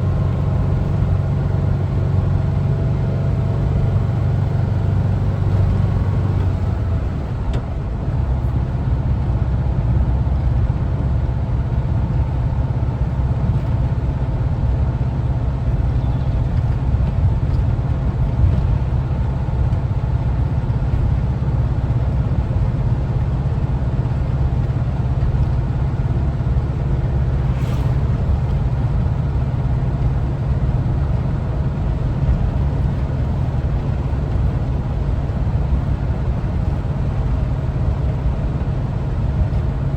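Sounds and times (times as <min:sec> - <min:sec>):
engine rumbling under way: 0:00.0 - 0:39.9
road noise: 0:00.0 - 0:39.9.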